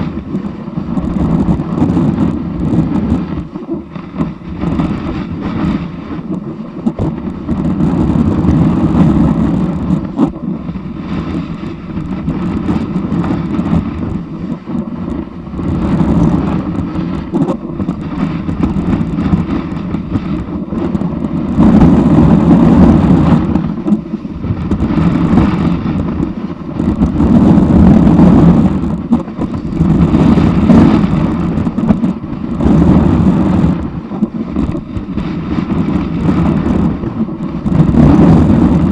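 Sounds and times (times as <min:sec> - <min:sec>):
snowboard scraping over snow: 0:00.0 - 0:38.9.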